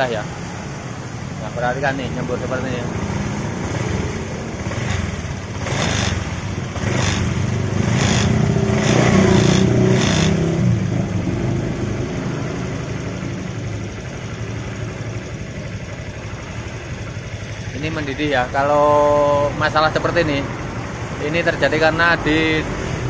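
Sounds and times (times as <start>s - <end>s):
scooter engine revving and idling: 0.0s - 23.0s.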